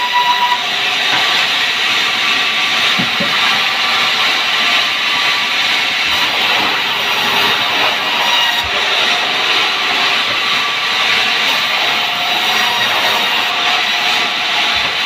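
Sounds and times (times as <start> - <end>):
band saw whirring: 0.0 - 15.0.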